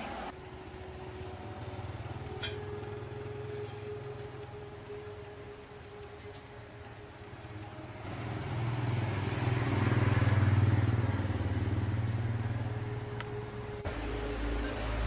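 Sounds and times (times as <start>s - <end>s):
vehicle engine running: 0.4s - 5.3s, 7.1s - 15.0s.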